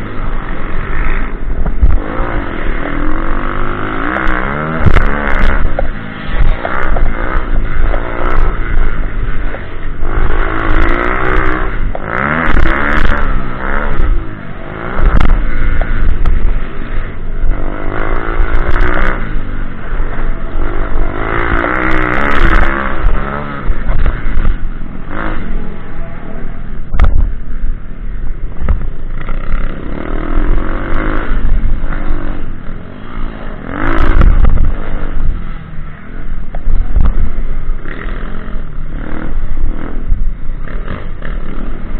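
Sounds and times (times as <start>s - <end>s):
pit bike engine revving: 0.0s - 41.9s.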